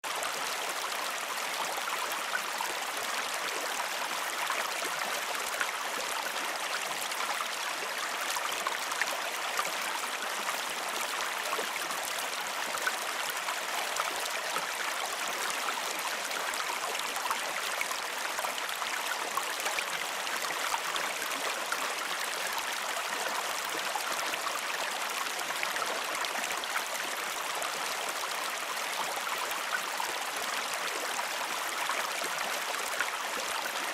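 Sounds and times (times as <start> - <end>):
stream of water flowing: 0.0 - 33.9.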